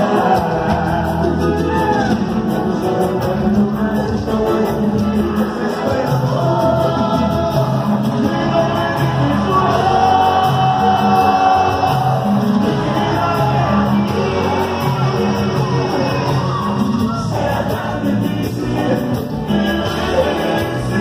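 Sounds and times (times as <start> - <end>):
live band music: 0.0 - 21.0
man singing into a microphone: 0.0 - 21.0
repeating bass line: 0.0 - 21.0.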